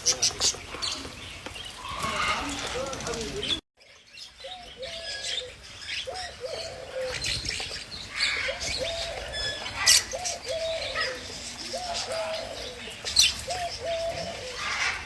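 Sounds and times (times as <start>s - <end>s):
low bird calls: 0.0s - 3.6s, 4.2s - 15.0s.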